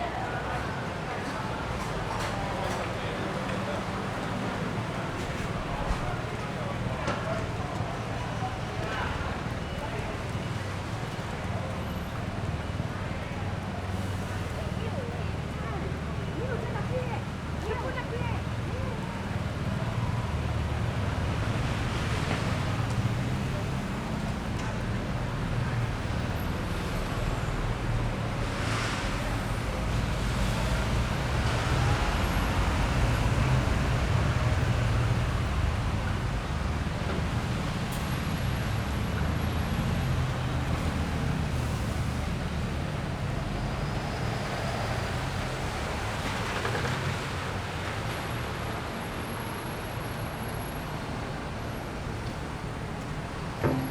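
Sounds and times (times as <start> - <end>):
road traffic rumble: 0.0 - 53.9.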